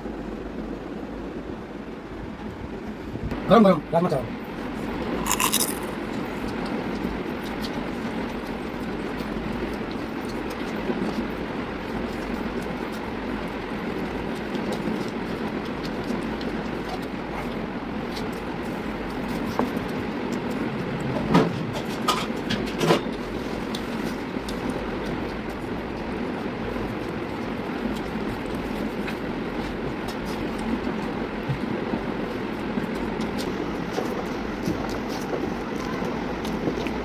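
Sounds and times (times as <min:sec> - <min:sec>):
steady rumbling noise: 0:00.0 - 0:37.0.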